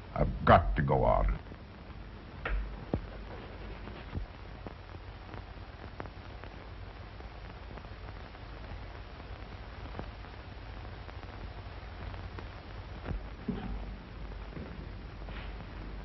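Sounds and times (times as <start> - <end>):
film soundtrack hiss and hum: 0.0 - 16.0.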